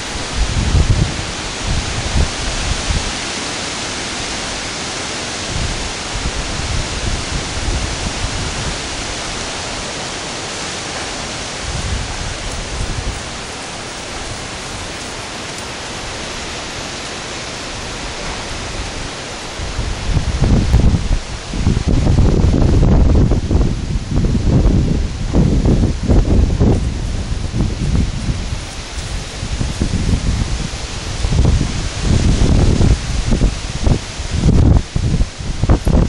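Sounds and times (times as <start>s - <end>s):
wind gusts buffeting microphone: 0.0s - 36.0s
wind hiss on microphone: 0.0s - 36.0s.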